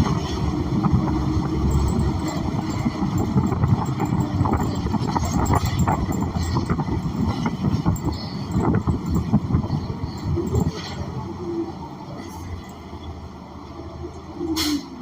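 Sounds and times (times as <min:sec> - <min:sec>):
bus engine: 0:00.0 - 0:15.0
road rumble: 0:00.0 - 0:15.0.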